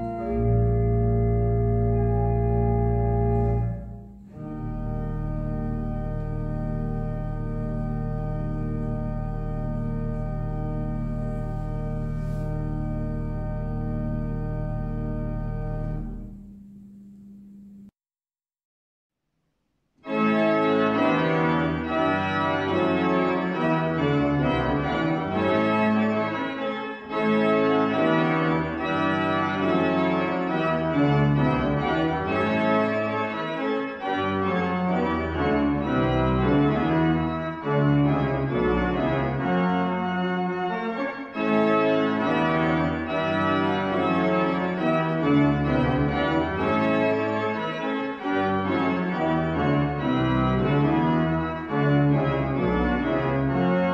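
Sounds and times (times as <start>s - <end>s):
church organ playing chords: 0.0s - 17.9s, 20.0s - 53.9s.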